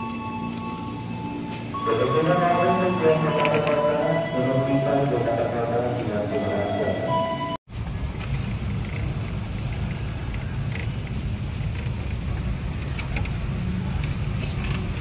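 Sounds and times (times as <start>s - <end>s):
faint street noise: 0.0s - 15.0s
minibus engine rumbling: 0.0s - 15.0s.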